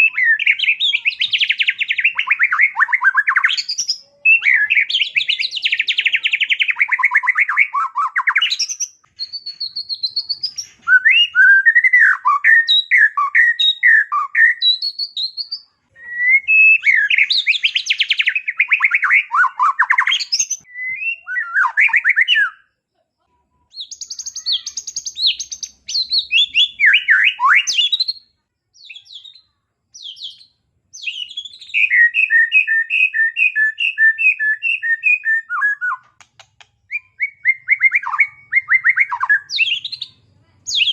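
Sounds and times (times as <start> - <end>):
songbird singing varied song: 0.0 - 22.7, 23.7 - 40.9.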